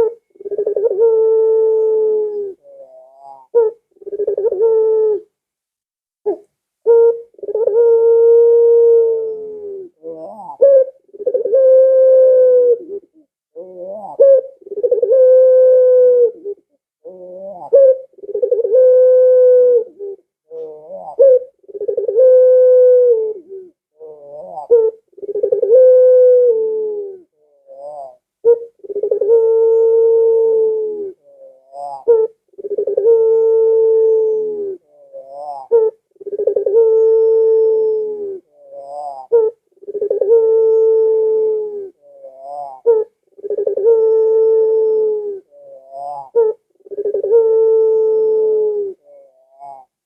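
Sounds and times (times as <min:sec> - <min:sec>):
dove cooing: 0:00.0 - 0:05.3, 0:06.3 - 0:50.0.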